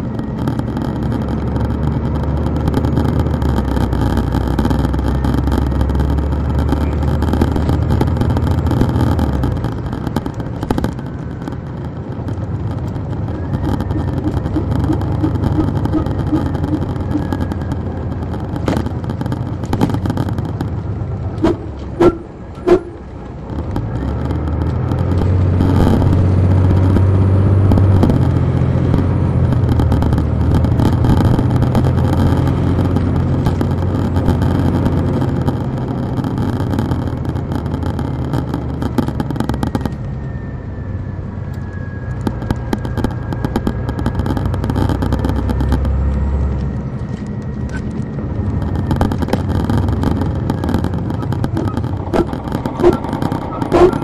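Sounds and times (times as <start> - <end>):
bus interior rattles: 0.0 - 54.0
diesel bus engine: 0.0 - 54.0
faint falling whine: 0.0 - 54.0.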